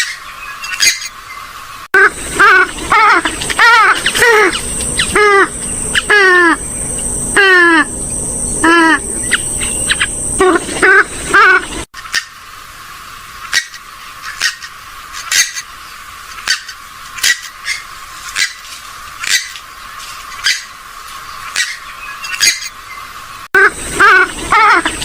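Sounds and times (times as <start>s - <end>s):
waterbird calling: 0.0s - 18.6s, 19.2s - 25.0s.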